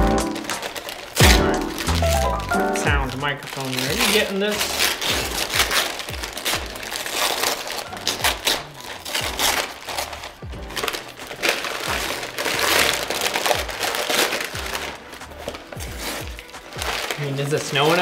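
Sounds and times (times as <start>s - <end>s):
background music with low beat: 0.0s - 18.0s
packing paper crinkling and tearing: 0.0s - 18.0s.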